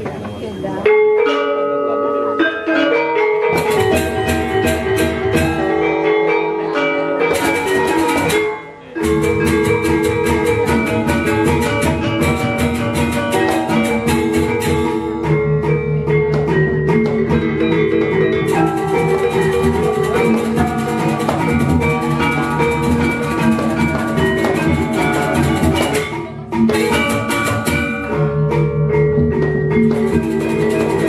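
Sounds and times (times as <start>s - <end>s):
metallophones ringing: 0.0s - 31.0s.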